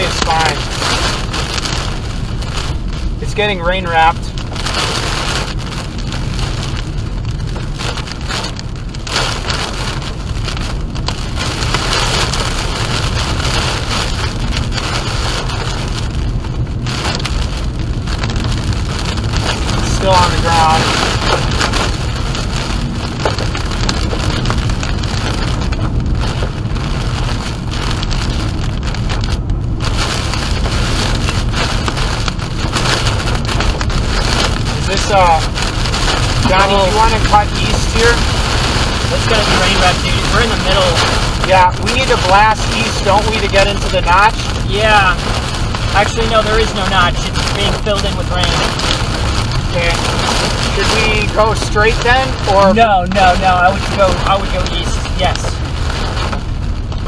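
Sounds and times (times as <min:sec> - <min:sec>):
car driving rumble: 0:00.0 - 0:57.0
heavy rain on a car: 0:00.0 - 0:57.0.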